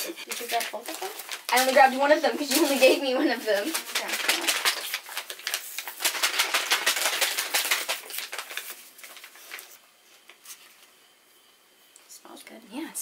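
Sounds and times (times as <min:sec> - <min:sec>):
packets crinkling and rustling: 0:00.0 - 0:11.0.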